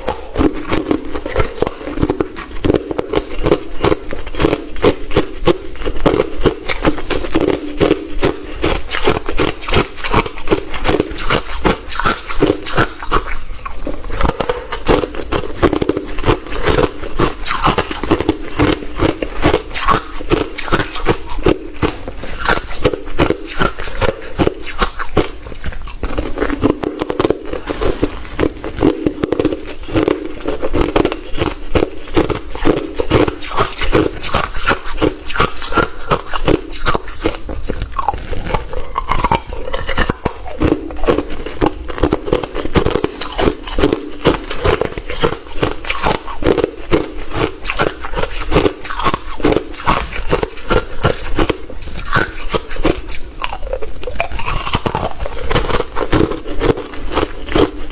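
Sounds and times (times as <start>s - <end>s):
chewing crunchy ice: 0.0s - 57.9s.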